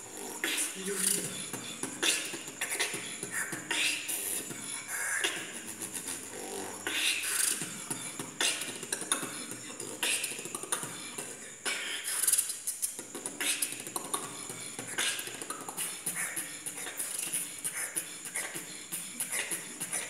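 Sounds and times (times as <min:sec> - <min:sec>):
person beatboxing: 0:00.0 - 0:20.0.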